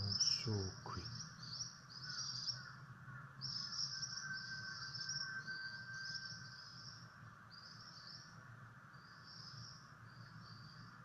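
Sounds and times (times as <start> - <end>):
bird high rolling trills: 0.0 - 11.0
faint steady buzz: 0.0 - 11.0.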